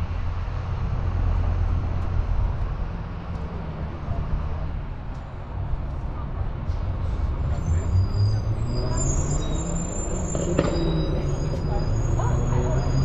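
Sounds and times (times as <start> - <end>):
bus engine droning: 0.0 - 13.0
road and traffic noise: 0.0 - 13.0.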